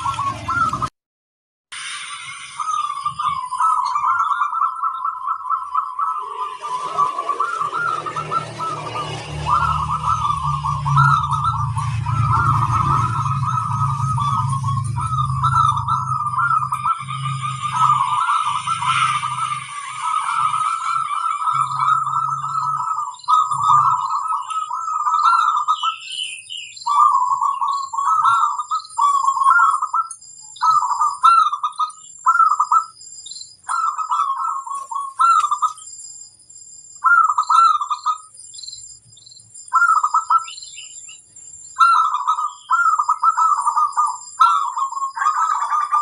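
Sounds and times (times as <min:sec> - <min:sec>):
doves cooing: 0:00.0 - 0:00.9, 0:02.6 - 0:32.9, 0:33.7 - 0:35.8, 0:37.0 - 0:38.2, 0:39.7 - 0:40.6, 0:41.8 - 0:46.0
high-pitched whine: 0:00.0 - 0:00.9, 0:01.7 - 0:46.0
high chirps: 0:01.7 - 0:46.0.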